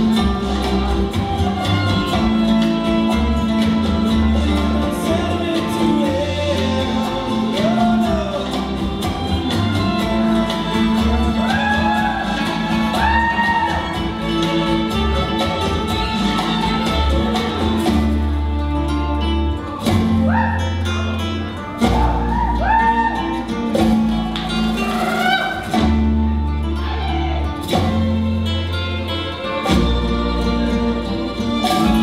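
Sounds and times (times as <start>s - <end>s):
held bass line: 0.0s - 32.0s
mariachi style latin music: 0.0s - 32.0s.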